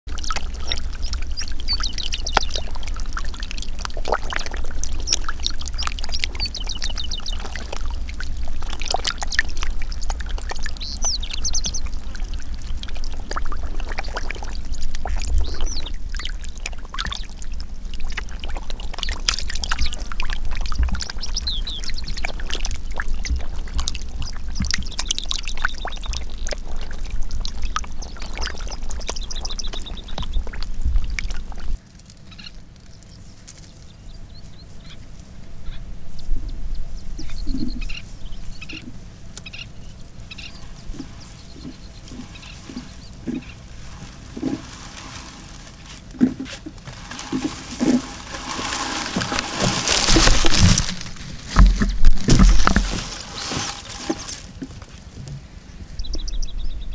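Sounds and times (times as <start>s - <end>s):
fish splashing and slapping: 0.1s - 32.2s, 39.4s - 55.1s
water running down channel: 0.1s - 32.2s, 37.2s - 55.2s.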